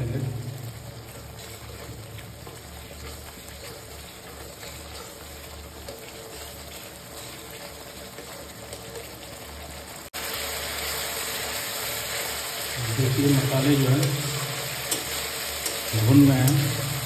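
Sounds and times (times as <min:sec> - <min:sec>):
spice paste sizzling in hot oil: 0:00.0 - 0:17.0
spatula stirring in metal pan: 0:00.5 - 0:10.2, 0:10.8 - 0:17.0.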